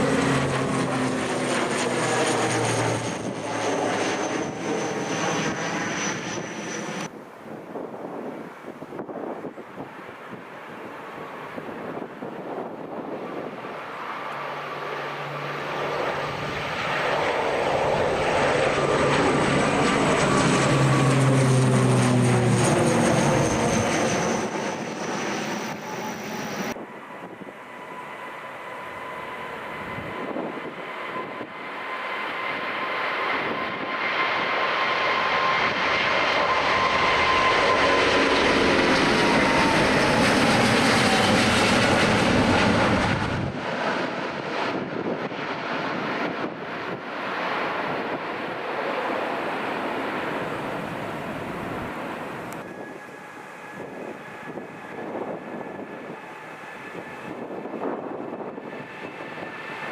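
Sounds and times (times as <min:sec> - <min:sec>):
jet engines whining past: 0:00.0 - 0:59.9.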